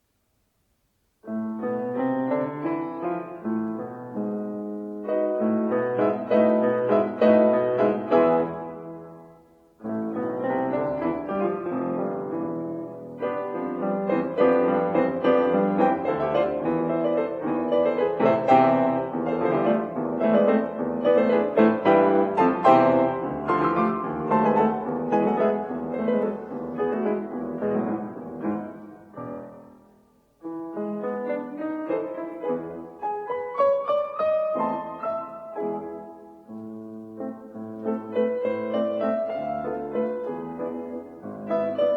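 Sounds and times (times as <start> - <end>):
piano playing classical piece: 1.1 - 41.9.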